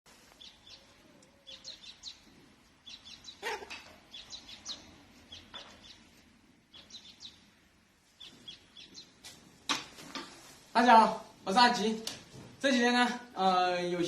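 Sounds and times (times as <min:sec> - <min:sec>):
small birds chirping: 0:00.1 - 0:12.0.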